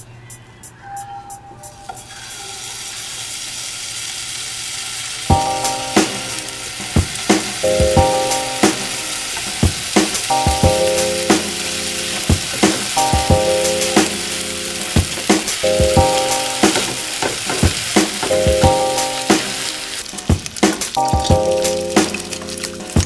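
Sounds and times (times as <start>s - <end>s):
background music with beat: 0.0s - 2.4s, 5.3s - 23.0s
bacon sizzling in a frying pan: 2.1s - 23.0s.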